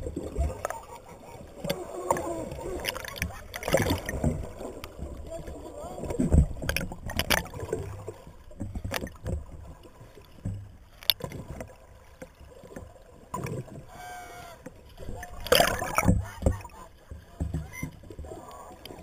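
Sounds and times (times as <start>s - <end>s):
low underwater rumble: 0.0s - 19.0s.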